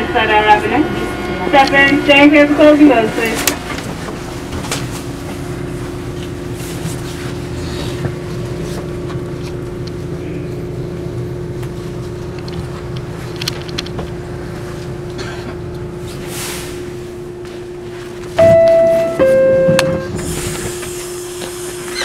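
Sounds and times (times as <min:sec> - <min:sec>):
steady equipment hum: 0:00.0 - 0:21.9.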